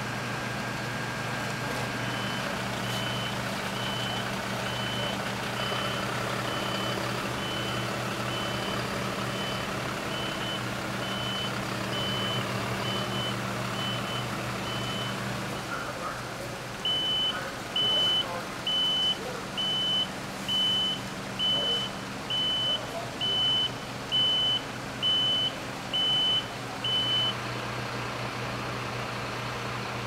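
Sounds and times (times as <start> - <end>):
truck engine running: 0.0 - 30.0
truck reversing alarm beeping: 0.6 - 16.1, 16.8 - 27.4.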